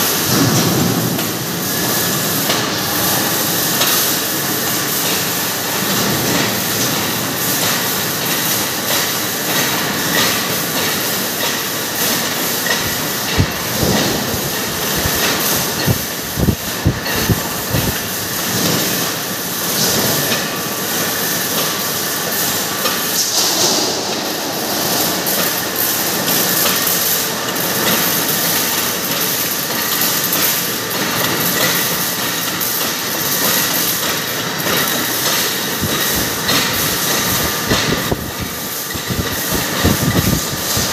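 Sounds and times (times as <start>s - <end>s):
mill machinery clatter and hiss: 0.0s - 40.9s.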